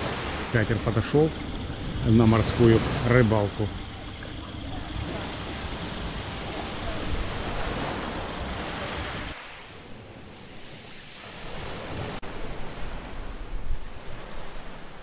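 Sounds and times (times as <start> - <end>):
small waves washing ashore: 0.0 - 15.0.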